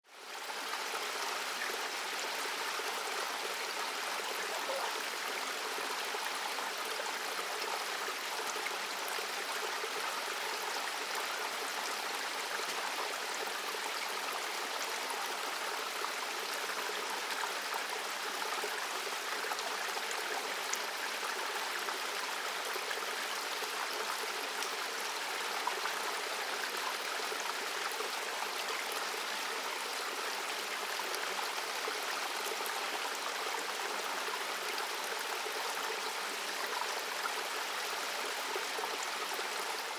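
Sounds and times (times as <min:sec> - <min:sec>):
stream water rushing: 0:00.2 - 0:39.9.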